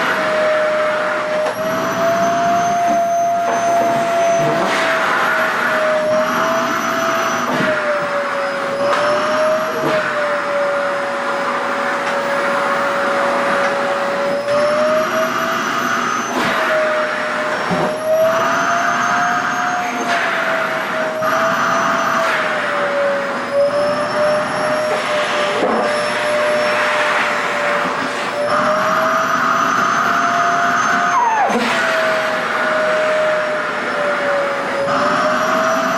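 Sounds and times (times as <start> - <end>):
vacuum cleaner whine and air rush: 0.0 - 35.9.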